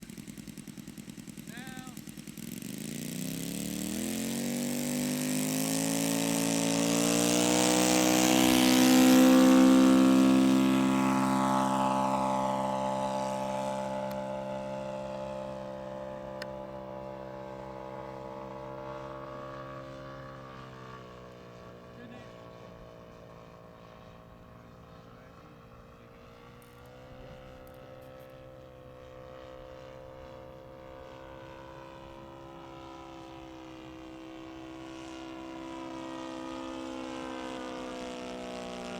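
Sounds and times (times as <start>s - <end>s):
model plane propeller engine: 0.0s - 38.9s.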